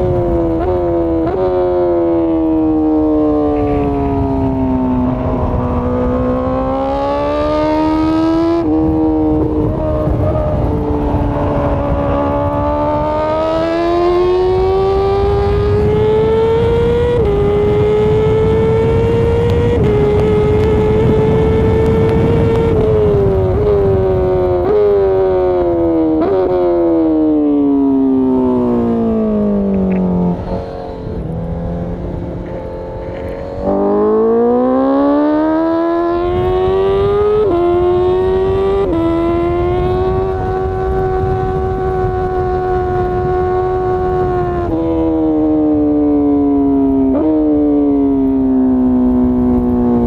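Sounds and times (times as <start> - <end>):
motorcycle engine revving: 0.0 - 50.0
wind noise: 0.0 - 50.0.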